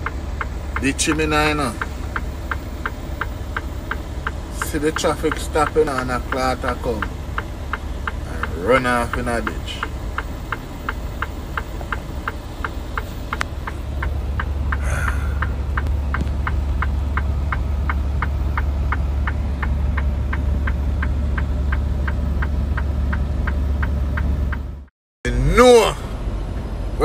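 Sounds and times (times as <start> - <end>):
turn signal ticking: 0.0 - 24.9
truck engine rumbling: 0.0 - 27.0.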